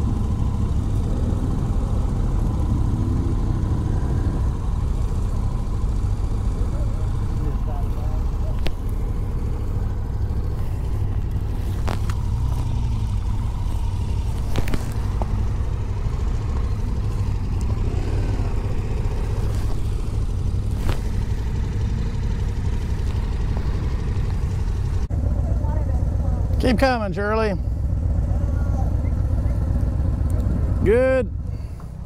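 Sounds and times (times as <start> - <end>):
motorcycle engines idling: 0.0 - 32.0.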